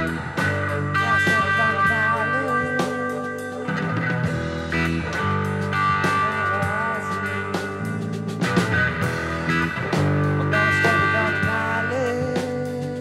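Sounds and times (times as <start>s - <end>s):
electric guitar with effects: 0.0s - 13.0s.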